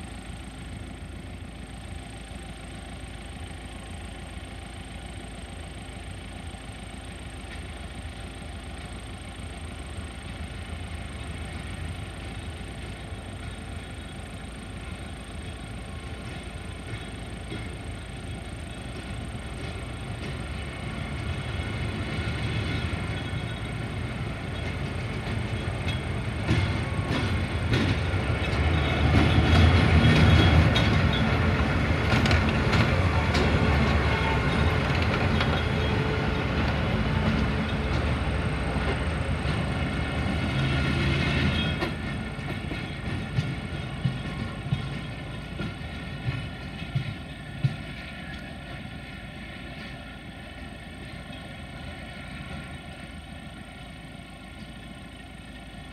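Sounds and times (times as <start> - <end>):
diesel locomotive engine: 0.0 - 55.9
wheels clicking over rail joints: 7.3 - 55.9.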